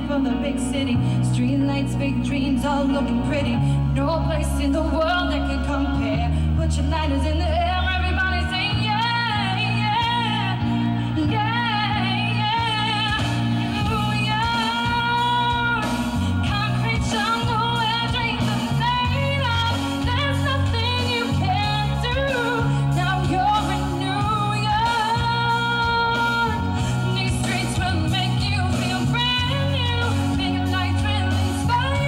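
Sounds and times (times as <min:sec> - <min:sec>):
instrumental accompaniment: 0:00.0 - 0:32.0
steady bass line: 0:00.0 - 0:32.0
woman singing into microphone: 0:00.0 - 0:32.0.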